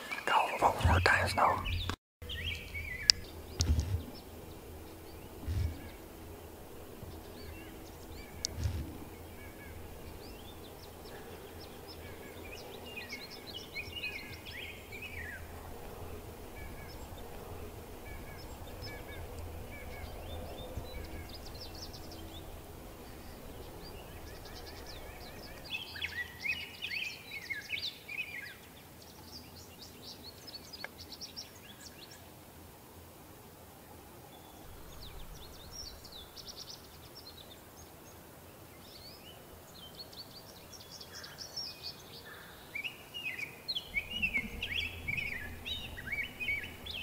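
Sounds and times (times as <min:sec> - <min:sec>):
songbird chirps: 0:00.0 - 0:32.4, 0:33.8 - 0:47.0.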